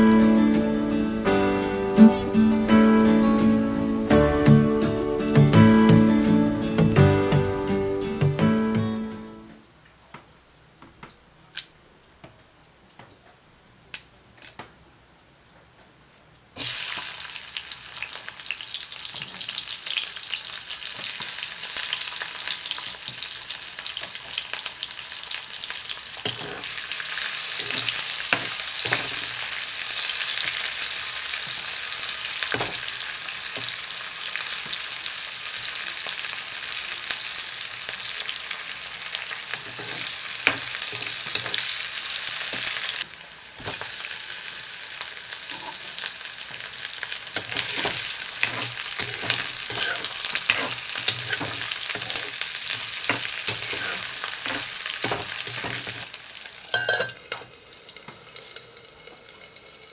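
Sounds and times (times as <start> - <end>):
hot oil sizzling: 0.0 - 7.1, 16.6 - 59.9.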